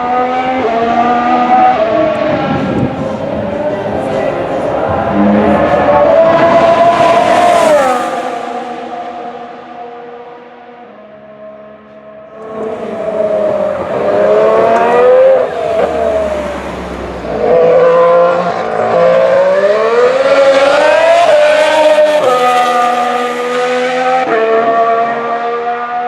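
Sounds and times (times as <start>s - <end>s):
racing car engine: 0.0s - 26.0s.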